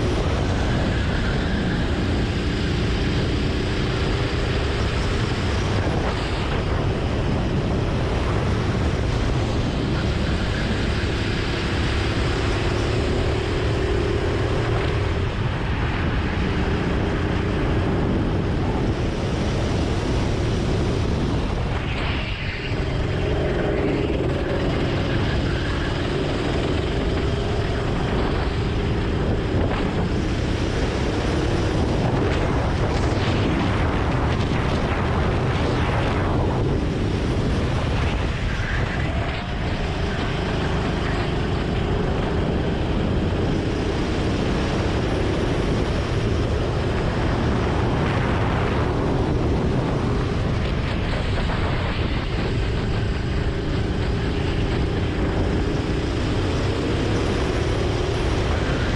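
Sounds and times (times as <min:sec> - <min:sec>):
go-kart engine running: 0:00.0 - 0:58.9
wind rushing over microphone: 0:00.0 - 0:58.9.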